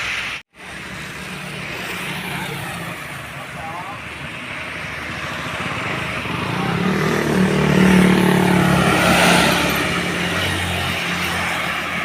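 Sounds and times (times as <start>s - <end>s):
vehicle passing by: 0.7s - 12.0s.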